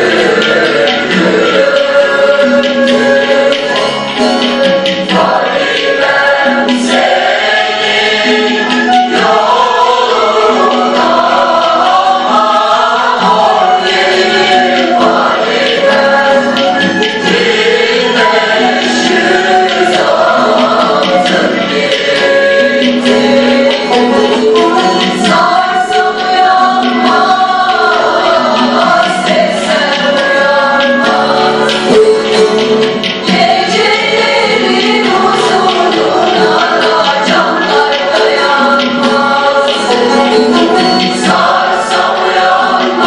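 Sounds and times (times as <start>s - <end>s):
bowed fiddle: 0.0s - 43.0s
choir singing folk song: 0.0s - 43.0s
goblet drum beating: 0.0s - 43.0s
long-necked lute: 0.0s - 43.0s.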